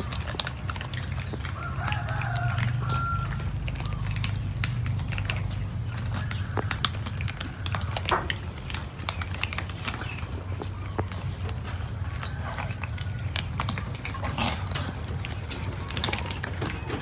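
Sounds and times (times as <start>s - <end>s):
cats crunching dry kibble: 0.0s - 17.0s.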